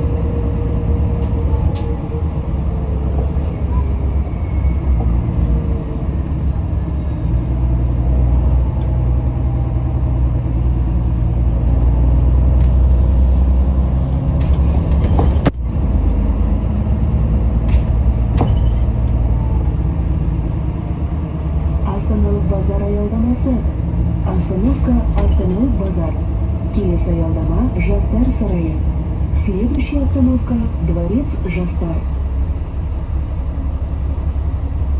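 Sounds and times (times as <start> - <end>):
bus engine and road rumble: 0.0 - 34.9.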